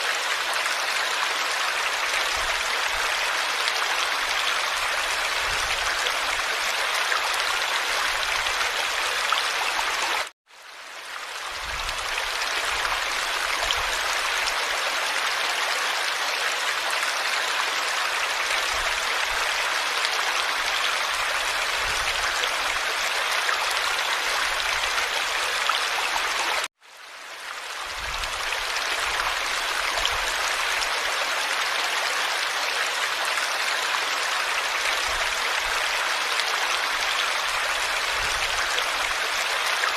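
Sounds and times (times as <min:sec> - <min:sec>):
stream water rushing: 0:00.0 - 0:10.3, 0:11.1 - 0:26.7, 0:27.4 - 0:39.9.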